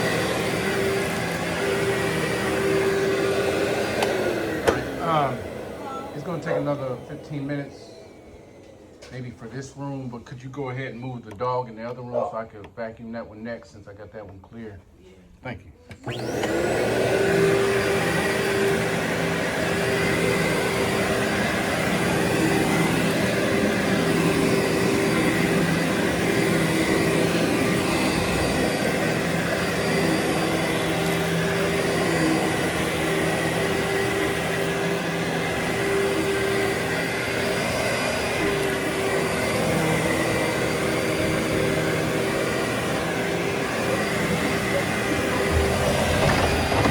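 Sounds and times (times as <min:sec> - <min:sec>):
vacuum cleaner running: 0:00.0 - 0:12.3, 0:15.9 - 0:46.9.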